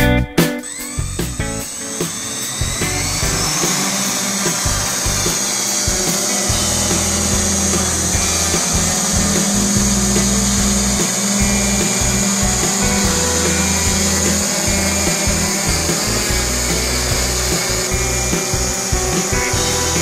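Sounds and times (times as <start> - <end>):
background music: 0.0 - 20.0
drone propellers buzzing: 0.6 - 20.0.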